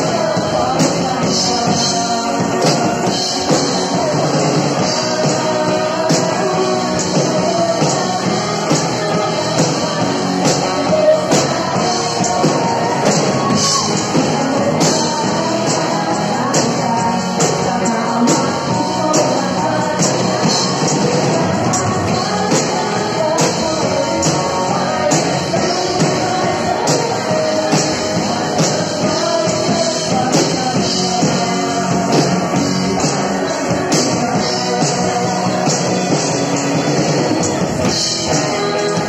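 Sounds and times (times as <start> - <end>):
drum kit steady beat: 0.0 - 39.0
electric bass: 0.0 - 39.0
electric guitar: 0.0 - 39.0
woman singing lead: 0.0 - 39.0.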